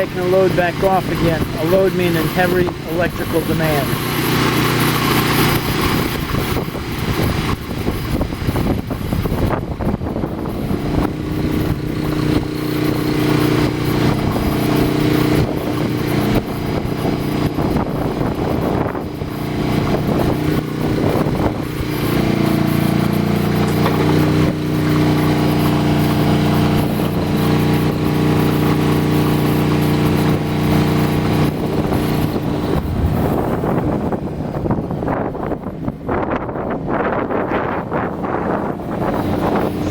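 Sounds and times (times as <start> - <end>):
generator running: 0.0 - 39.9.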